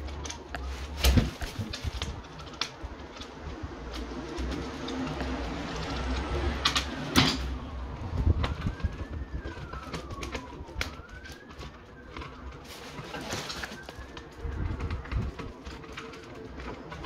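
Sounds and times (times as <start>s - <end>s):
faint siren: 0.0s - 17.0s.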